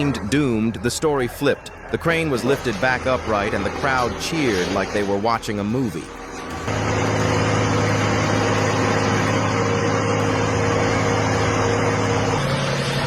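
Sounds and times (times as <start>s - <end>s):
heavy engine running: 0.0s - 13.0s.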